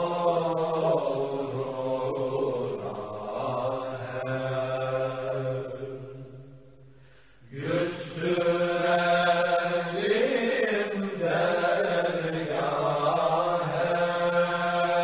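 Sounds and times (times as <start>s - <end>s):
man chanting slow melody: 0.0s - 6.4s, 7.5s - 15.0s.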